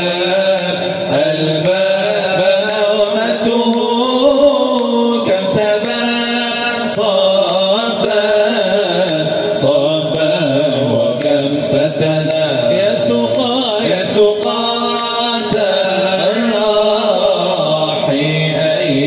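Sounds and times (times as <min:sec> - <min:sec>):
man singing a slow chant: 0:00.0 - 0:19.0.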